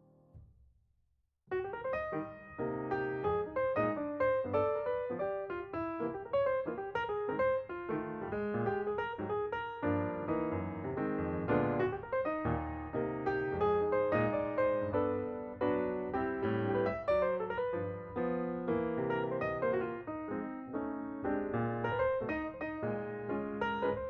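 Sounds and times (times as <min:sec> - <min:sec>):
piano music: 0:01.5 - 0:24.0.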